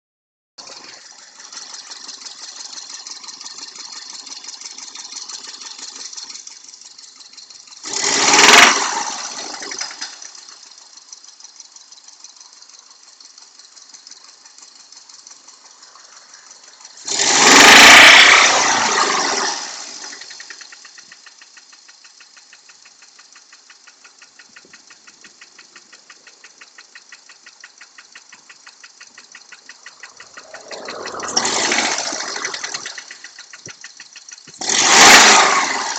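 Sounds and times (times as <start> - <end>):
engine revving: 0.6 - 12.7, 13.6 - 22.9, 23.5 - 35.9
car engine idling with rapid knock: 0.6 - 35.9.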